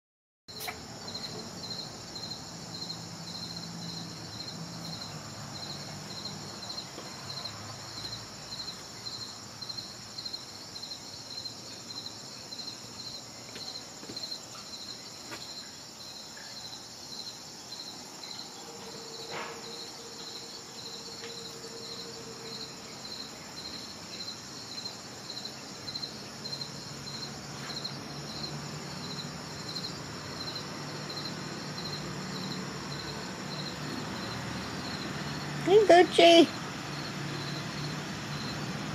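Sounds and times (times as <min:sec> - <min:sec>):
insect chirping high-pitched: 0:00.5 - 0:38.6
insects chorus: 0:00.5 - 0:38.9.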